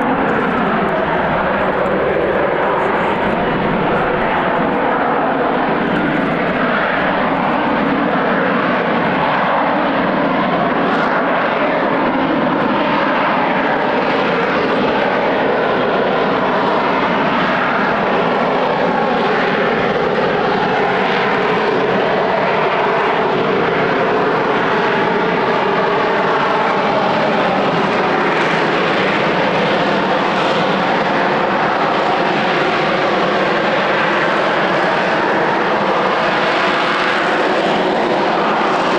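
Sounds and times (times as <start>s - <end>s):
faint wavering engine tones: 0.0s - 38.9s
jet engine rushing roar: 0.0s - 38.9s.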